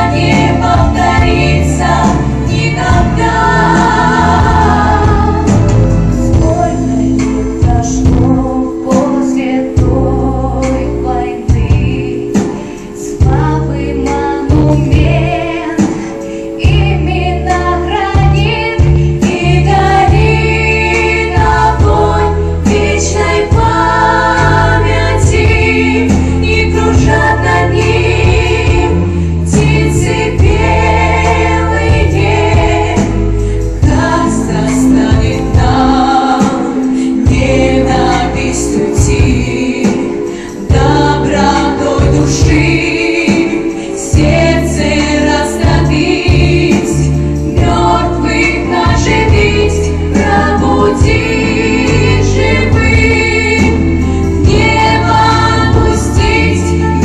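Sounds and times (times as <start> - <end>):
instrumental accompaniment: 0.0 - 57.0
vocal ensemble singing: 0.0 - 57.0.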